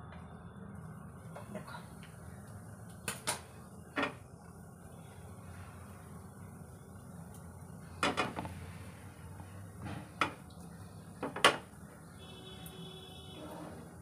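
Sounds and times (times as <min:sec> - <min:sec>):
low steady hum: 0:00.0 - 0:13.8.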